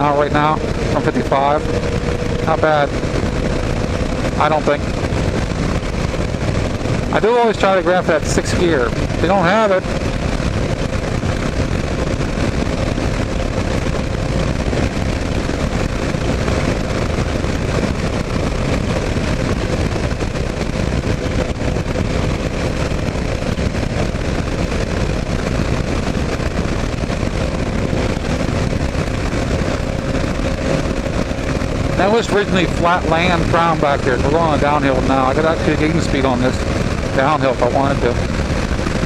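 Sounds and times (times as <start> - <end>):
faint steady drone: 0.0 - 39.0
motorcycle engine cruising: 0.0 - 39.0
wind and road noise: 0.0 - 39.0.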